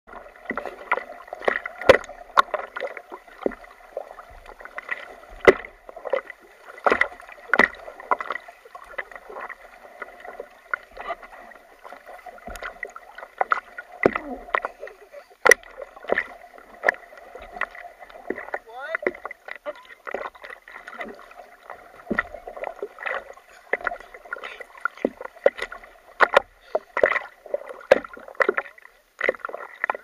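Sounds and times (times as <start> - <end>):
choppy water washing: 0.1 - 30.0
water splashing against surfboard: 0.1 - 30.0.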